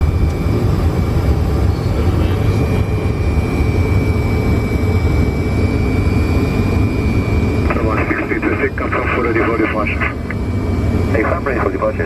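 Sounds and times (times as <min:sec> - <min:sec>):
jet flight deck low rumble: 0:00.0 - 0:12.0.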